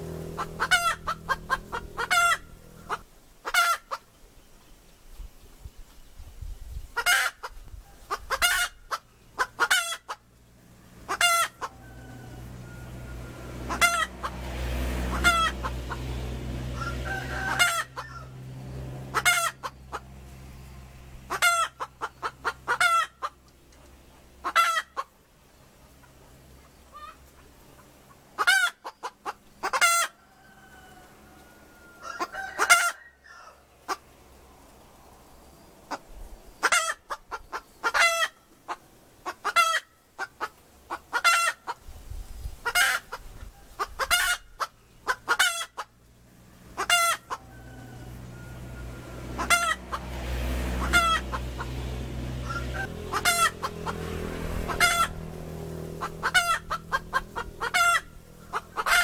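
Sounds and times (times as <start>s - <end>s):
hen clucking: 0.0s - 4.1s, 7.0s - 25.2s, 25.8s - 34.1s, 35.9s - 41.8s, 42.6s - 59.0s.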